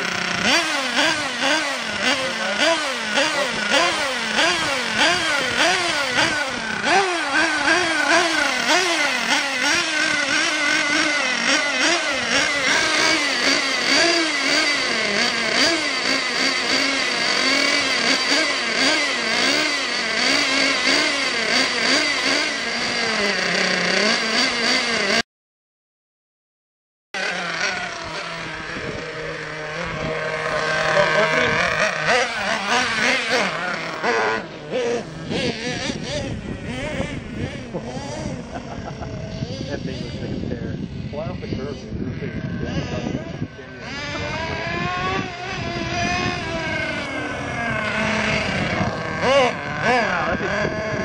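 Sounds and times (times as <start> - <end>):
small engine revving: 0.0 - 25.2, 27.2 - 51.0
steady high whine: 0.0 - 25.2, 27.2 - 51.0.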